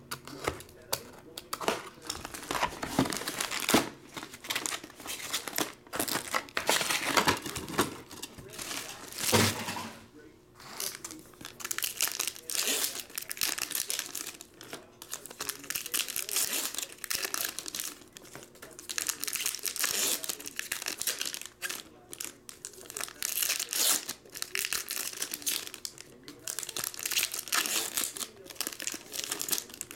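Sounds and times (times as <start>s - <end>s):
foil wrappers crinkling and tearing: 0.2s - 10.0s, 10.6s - 29.9s.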